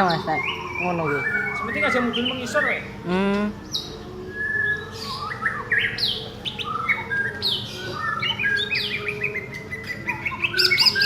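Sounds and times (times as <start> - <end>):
bird chirping and singing: 0.0 - 11.0.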